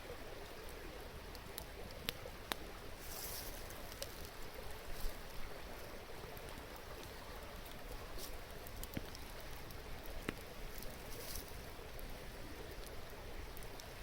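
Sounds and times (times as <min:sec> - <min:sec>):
campfire crackling and popping: 0:00.2 - 0:14.0.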